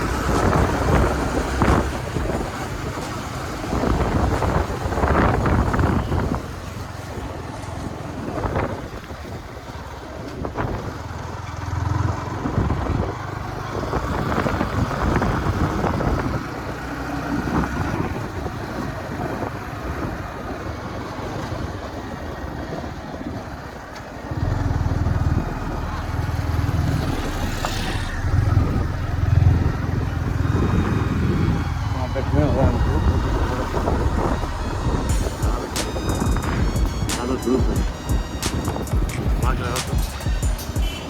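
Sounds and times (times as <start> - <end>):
wind noise on microphone: 0.0 - 11.4, 12.3 - 41.0
motorcycle engine rumble: 0.0 - 41.0.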